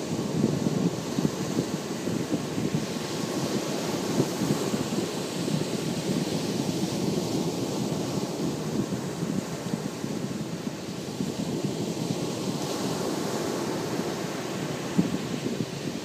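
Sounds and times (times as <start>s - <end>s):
ocean surf breaking on beach: 0.0s - 16.0s
wind buffeting microphone: 0.0s - 16.0s.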